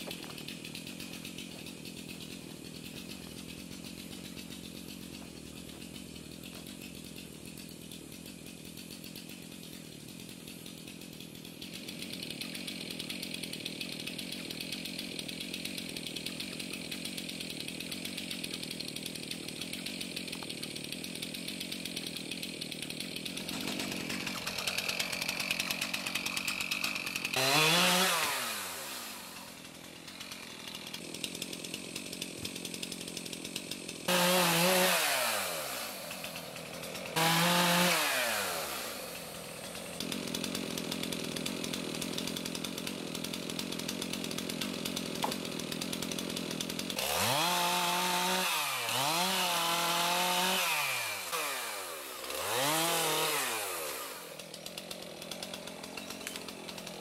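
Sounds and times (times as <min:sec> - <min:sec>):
chainsaw running and revving: 0:00.0 - 0:57.0.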